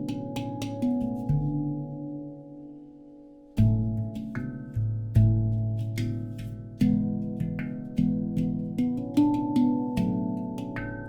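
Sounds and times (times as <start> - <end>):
handpan notes ringing: 0.0 - 11.0.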